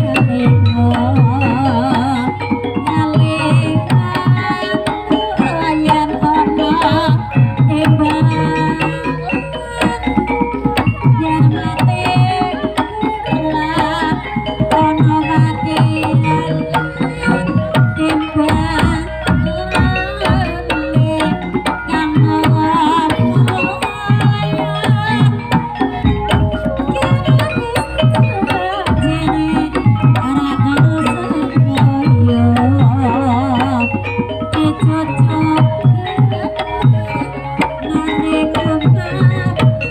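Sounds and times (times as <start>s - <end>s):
hand drums beating: 0.0s - 39.9s
ringing metallophone tones: 0.0s - 39.9s.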